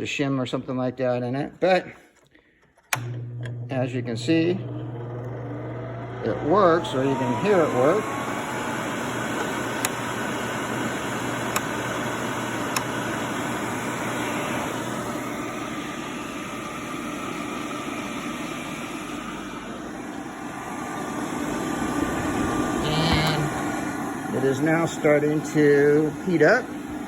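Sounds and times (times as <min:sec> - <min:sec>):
hair dryer blower whirring: 0:02.9 - 0:27.0.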